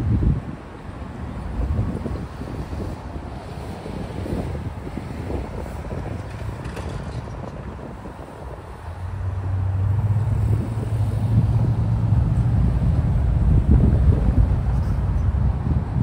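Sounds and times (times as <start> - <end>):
low engine hum: 0.0 - 16.0
road traffic passing: 0.0 - 16.0
wind buffeting microphone: 0.0 - 16.0.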